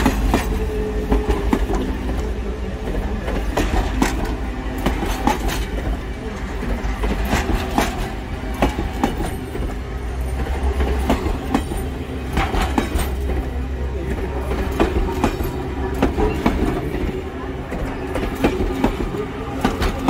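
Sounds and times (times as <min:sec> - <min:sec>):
train low rumble: 0:00.0 - 0:20.0
train wheels clicking over rail joints: 0:00.0 - 0:20.0.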